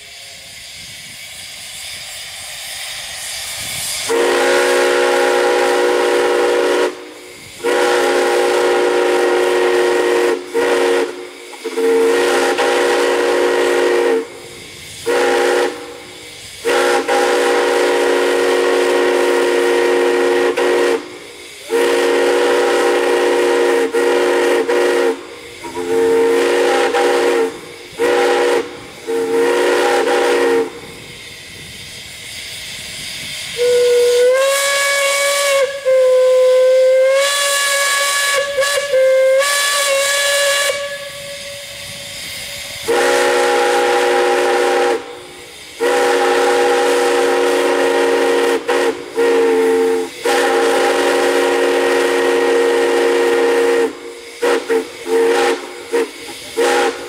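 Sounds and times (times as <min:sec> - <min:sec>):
steam chime whistle blasts: 0:00.0 - 0:57.0
steam hissing: 0:00.0 - 0:57.0.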